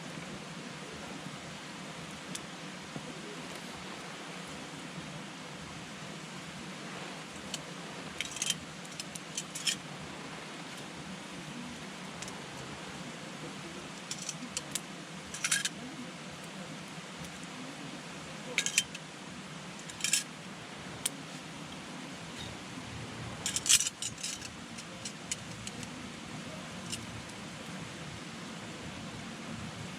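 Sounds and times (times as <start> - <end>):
campfire crackling: 0.0 - 29.9
steady hiss: 0.0 - 29.9.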